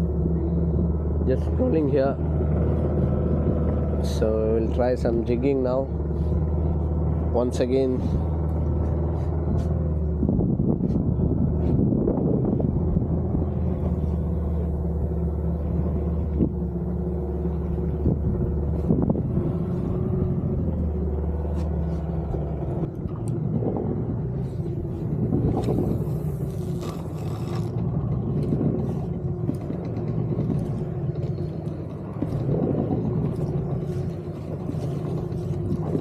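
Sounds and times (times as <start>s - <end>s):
boat engine running: 0.0s - 36.0s
water washing along hull: 0.0s - 36.0s.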